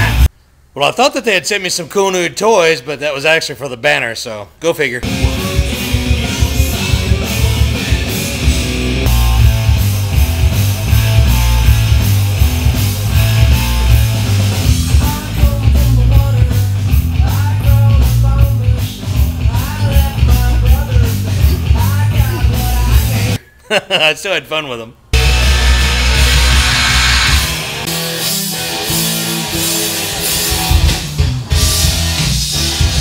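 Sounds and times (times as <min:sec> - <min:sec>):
hard rock music with singing: 0:00.0 - 0:00.2, 0:05.0 - 0:23.4, 0:25.2 - 0:33.0.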